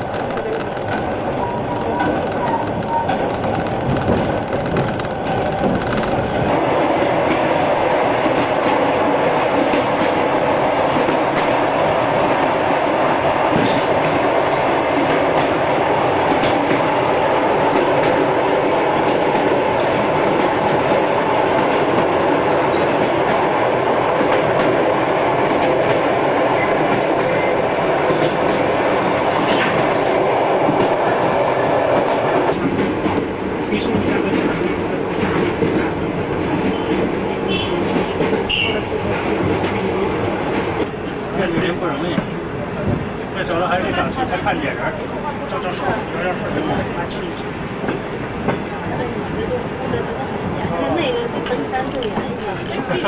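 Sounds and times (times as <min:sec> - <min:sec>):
train carriage rumbling: 0:00.0 - 0:53.0.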